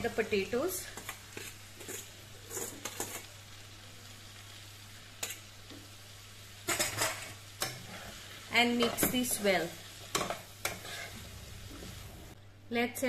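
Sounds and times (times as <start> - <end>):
frying sizzle in a pan: 0.0 - 13.0.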